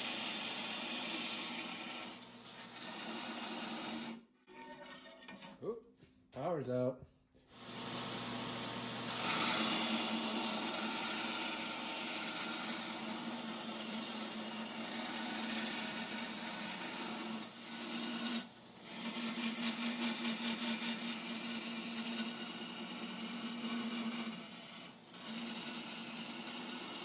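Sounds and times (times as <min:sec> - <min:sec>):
electric grinder grinding steel: 0:00.0 - 0:04.2, 0:07.6 - 0:27.0.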